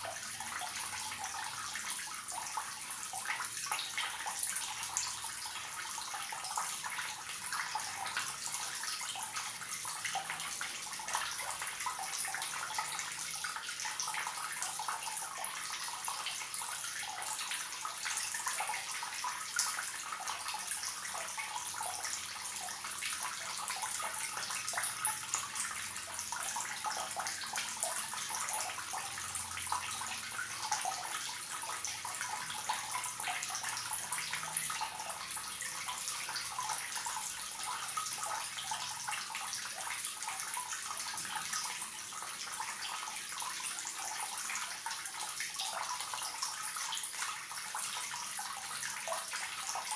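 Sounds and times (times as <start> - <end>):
water trickling from tap: 0.0 - 49.9.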